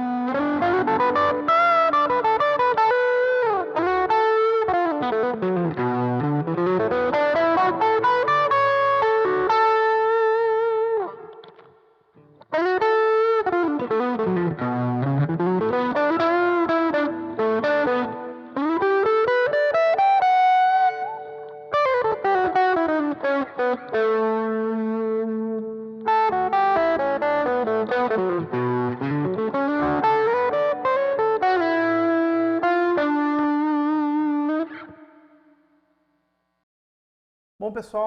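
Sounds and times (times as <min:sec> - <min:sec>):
overdriven electric guitar: 0:00.0 - 0:35.8.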